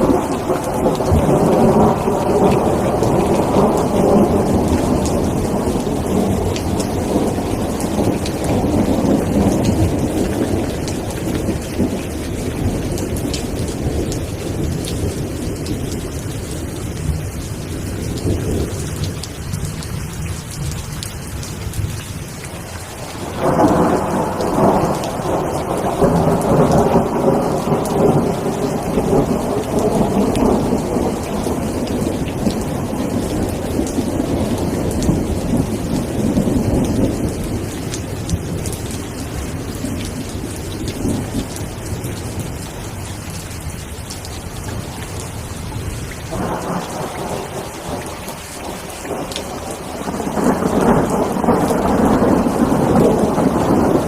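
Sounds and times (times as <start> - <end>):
rolling thunder: 0.0 - 19.8, 22.8 - 42.6, 45.7 - 54.0
steady rain falling: 0.0 - 54.0.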